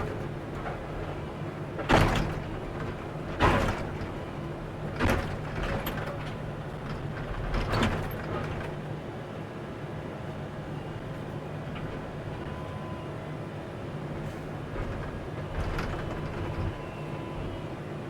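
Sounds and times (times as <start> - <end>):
excavator engine running: 0.0 - 8.8, 10.5 - 18.0.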